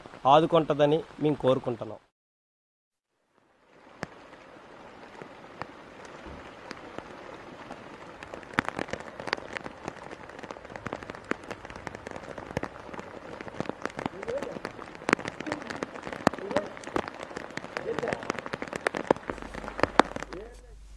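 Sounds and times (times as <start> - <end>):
steady rain: 0.0 - 2.1, 3.2 - 20.9
close raindrops ticking: 3.2 - 20.9.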